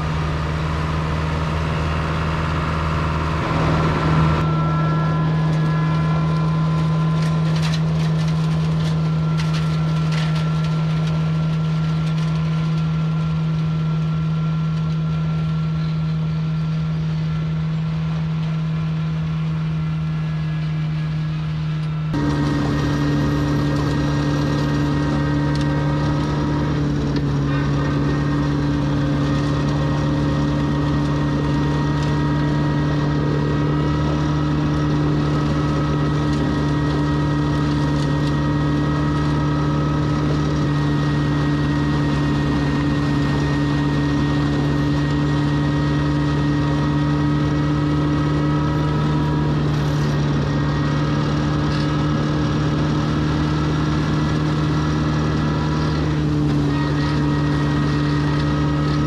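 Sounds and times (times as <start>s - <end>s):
tractor engine and mower drone: 0.0s - 59.0s.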